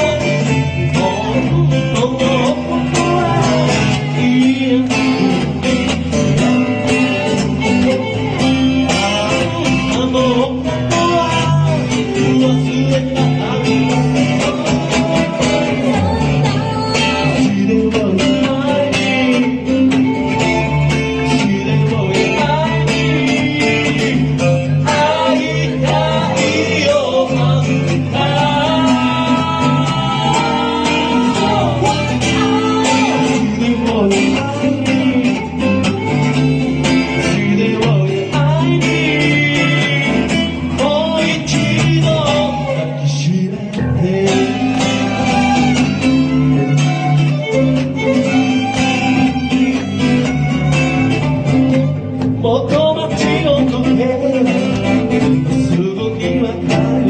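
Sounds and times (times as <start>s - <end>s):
country band guitar accompaniment: 0.0s - 57.0s.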